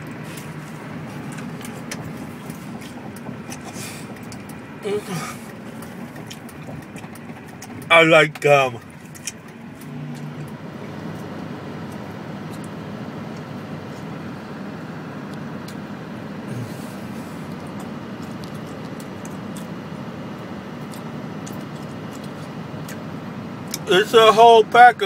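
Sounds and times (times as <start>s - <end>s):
vehicle road and engine noise: 0.0s - 25.0s.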